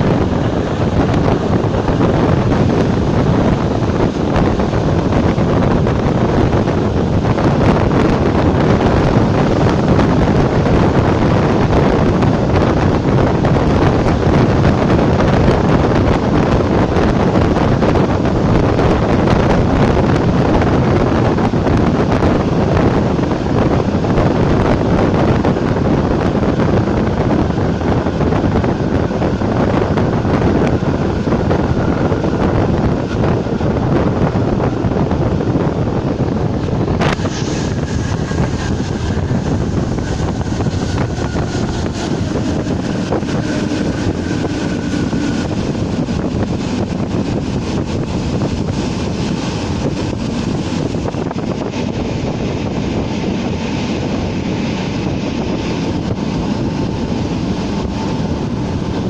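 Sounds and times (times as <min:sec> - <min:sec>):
electric train running: 0:00.0 - 0:59.0
wind buffeting microphone: 0:00.0 - 0:59.0.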